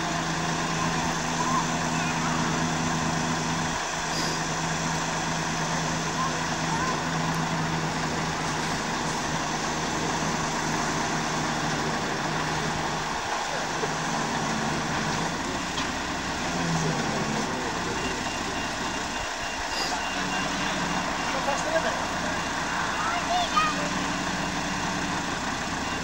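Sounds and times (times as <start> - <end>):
heavy vehicle engine running: 0.0 - 26.0.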